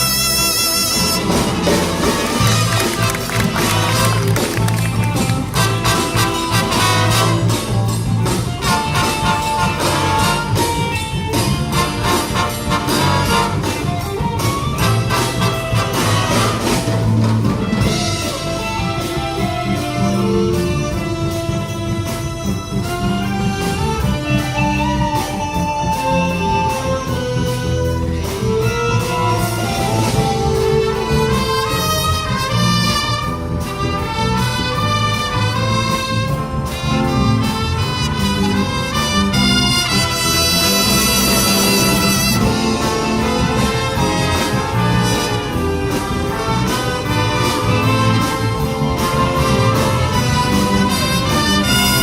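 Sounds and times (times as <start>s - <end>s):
big band brass section: 0.0s - 52.0s
rhythm section steady beat: 0.0s - 52.0s.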